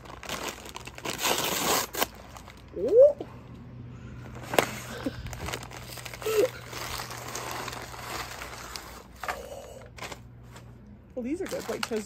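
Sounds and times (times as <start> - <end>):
paper bag crinkling: 0.0 - 2.8, 4.3 - 12.0.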